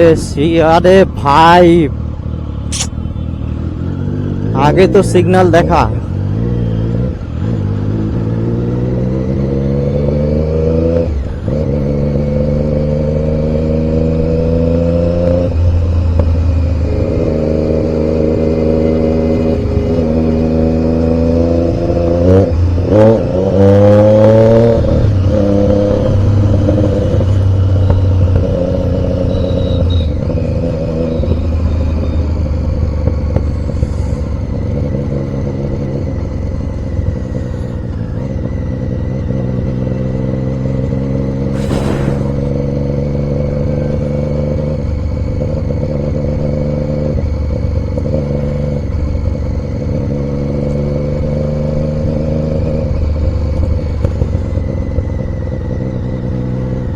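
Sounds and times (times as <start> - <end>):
motorcycle engine accelerating: 2.1 - 56.9.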